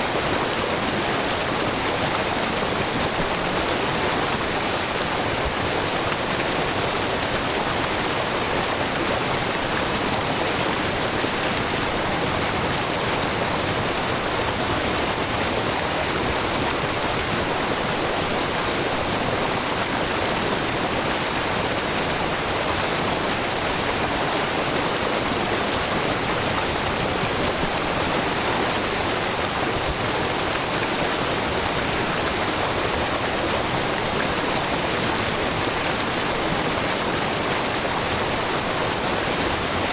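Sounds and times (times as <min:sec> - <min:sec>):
brook babbling: 0:00.0 - 0:39.9
waterfall pouring over rock: 0:00.0 - 0:39.9.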